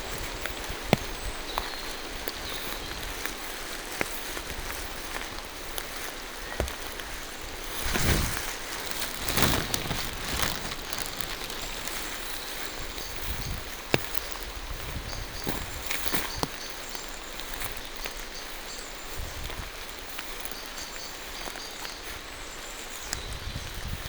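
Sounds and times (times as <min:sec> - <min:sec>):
footsteps on wet forest floor: 0:00.0 - 0:24.0
rain falling through trees: 0:00.0 - 0:24.0.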